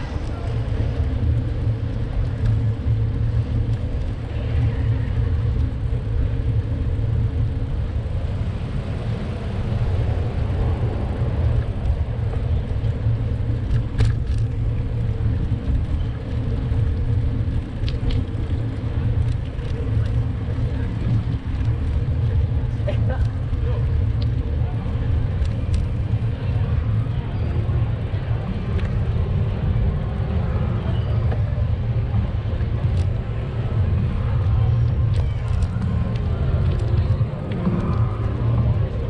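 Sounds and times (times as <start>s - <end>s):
low rumble of car traffic: 0.0s - 39.0s.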